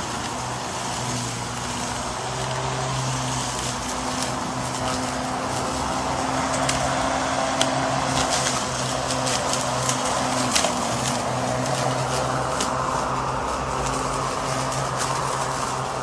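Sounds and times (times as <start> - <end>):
electric lawn mower cutting grass: 0.0 - 16.0.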